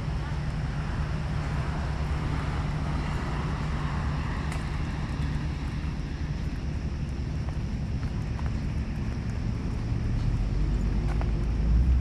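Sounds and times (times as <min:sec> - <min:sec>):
distant engine rumble: 0:00.0 - 0:12.0.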